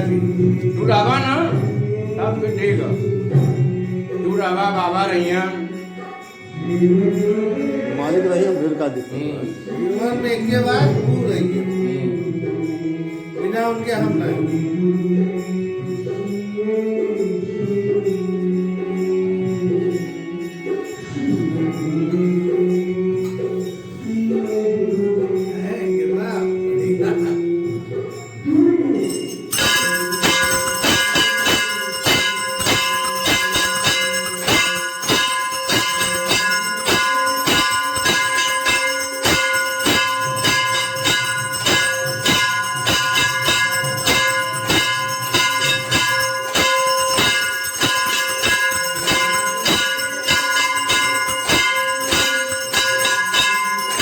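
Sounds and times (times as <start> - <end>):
bells ringing rapidly: 0.0 - 54.0.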